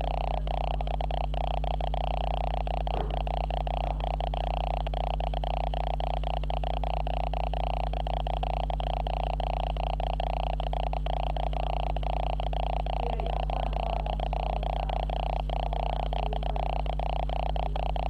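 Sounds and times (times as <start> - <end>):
electrical buzz and hum: 0.0 - 18.0.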